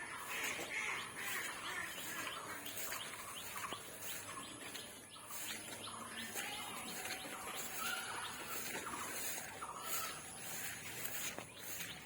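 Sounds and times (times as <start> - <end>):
faint outdoor background: 0.0 - 12.0
small birds chirping: 0.0 - 12.0.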